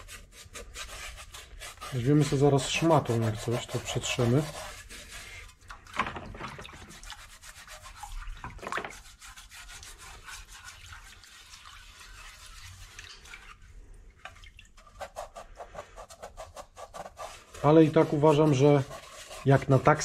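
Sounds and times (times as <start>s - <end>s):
hand rubbing wet metal plate: 0.0s - 20.0s.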